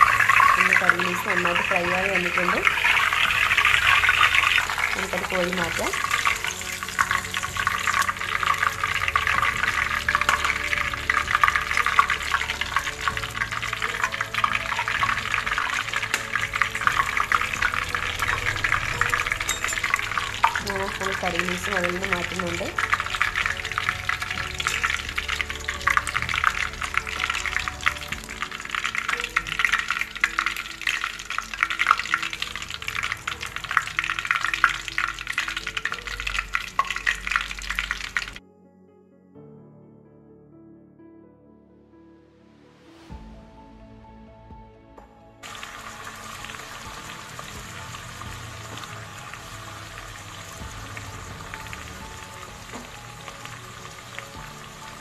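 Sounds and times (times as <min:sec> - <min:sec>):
leaves sizzling in hot oil: 0:00.0 - 0:38.4, 0:45.4 - 0:55.0
faint background music: 0:00.0 - 0:55.0.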